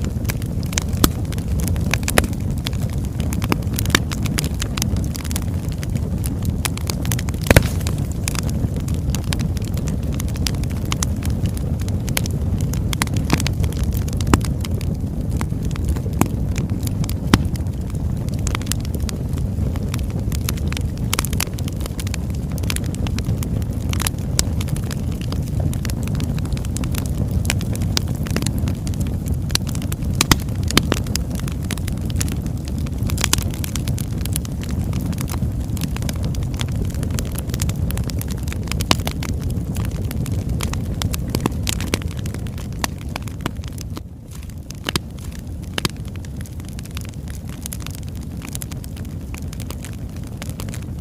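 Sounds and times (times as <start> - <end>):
sharp pops of fire: 0.0 - 51.0
wood fire crackling: 0.0 - 51.0.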